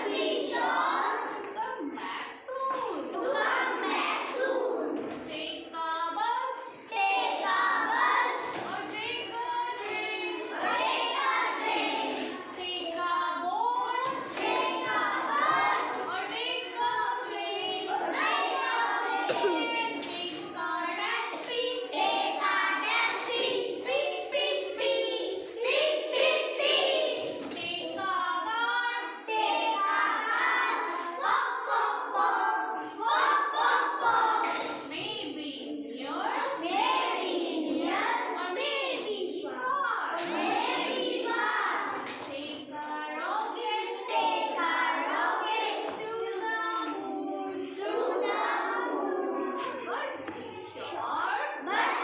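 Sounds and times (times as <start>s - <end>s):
children chanting in unison: 0.0s - 5.7s, 6.4s - 35.1s, 35.7s - 52.0s.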